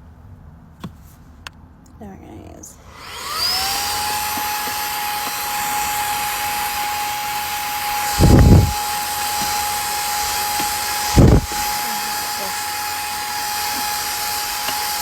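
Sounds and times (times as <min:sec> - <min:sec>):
handheld vacuum cleaner running: 0:02.8 - 0:15.0.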